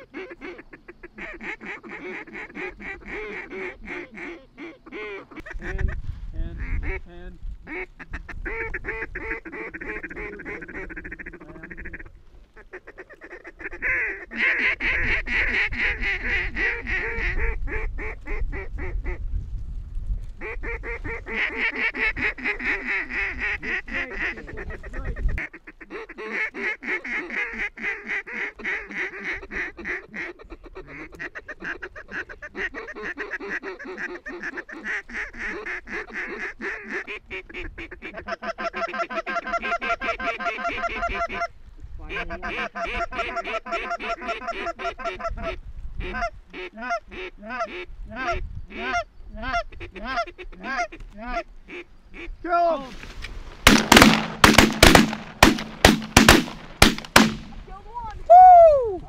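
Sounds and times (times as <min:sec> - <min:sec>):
ducks quacking: 0:00.0 - 0:19.2, 0:20.4 - 0:58.2.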